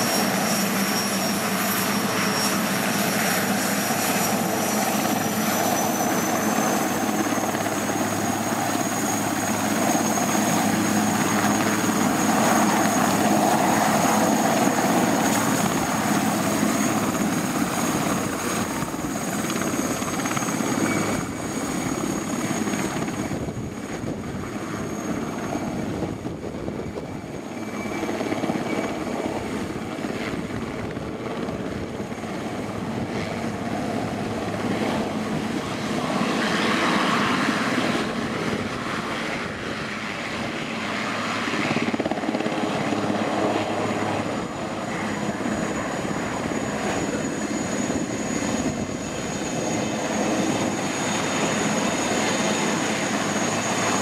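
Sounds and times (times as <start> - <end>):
helicopter rotor noise: 0.0 - 54.0
helicopter turbine whine: 0.0 - 54.0.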